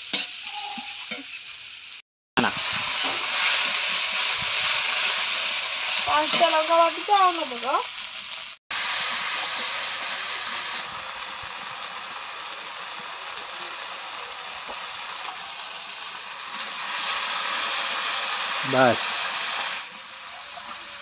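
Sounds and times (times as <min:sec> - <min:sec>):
masala sizzling in oil: 0:00.0 - 0:21.0.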